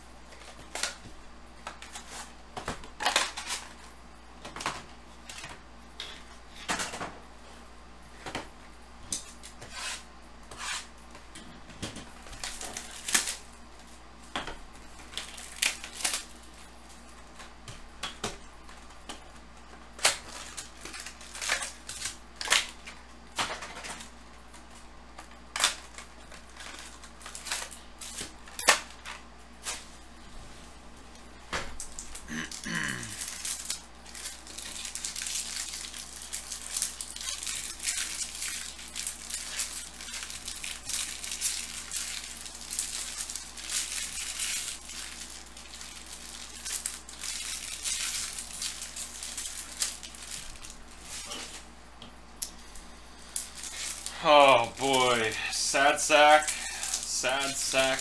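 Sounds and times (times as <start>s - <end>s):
card packs crinkling and rustling: 0.2s - 7.0s, 11.7s - 14.0s, 14.6s - 30.0s, 31.1s - 51.7s, 53.2s - 58.0s.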